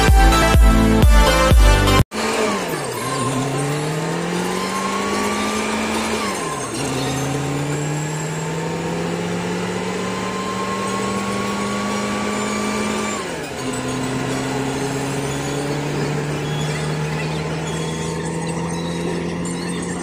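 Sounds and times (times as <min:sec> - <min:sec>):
vehicle engine shifting gears: 0:00.0 - 0:20.0.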